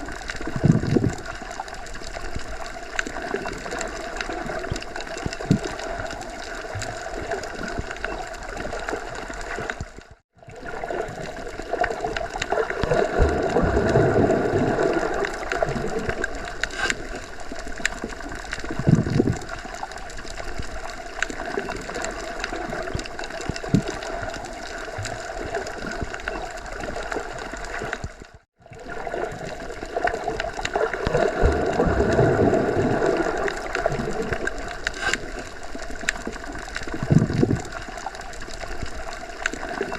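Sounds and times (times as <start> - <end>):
low bubbling and gurgling: 0.0 - 39.9
underwater watery rush: 0.0 - 39.9.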